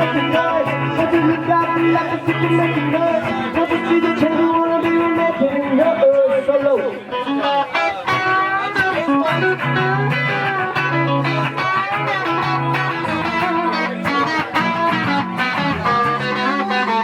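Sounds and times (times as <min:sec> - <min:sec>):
bass line: 0:00.0 - 0:07.4, 0:08.0 - 0:17.0
electric guitar solo: 0:00.0 - 0:17.0.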